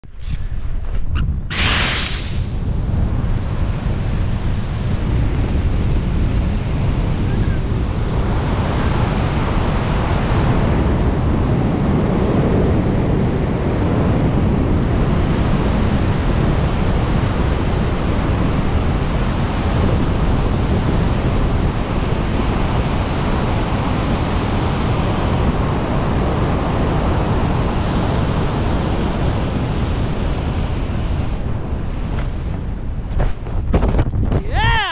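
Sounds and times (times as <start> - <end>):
loud wind rush on microphone: 0.0 - 34.9.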